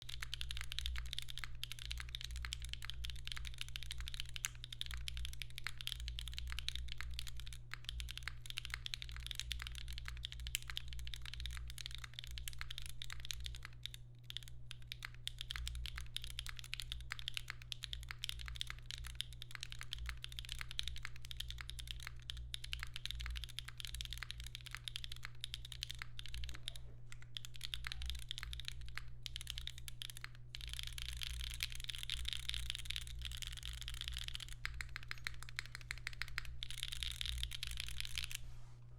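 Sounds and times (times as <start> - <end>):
mechanical keyboard typing: 0.0 - 38.4.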